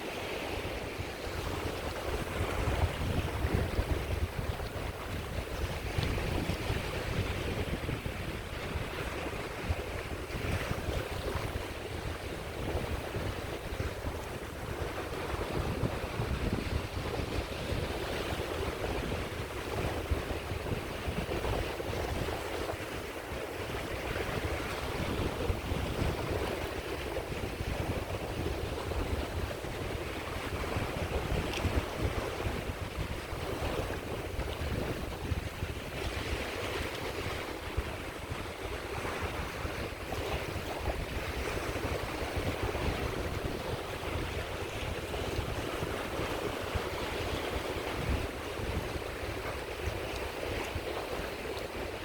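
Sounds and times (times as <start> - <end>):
sea waves breaking on shore: 0.0 - 52.0
wind buffeting microphone: 0.0 - 52.0.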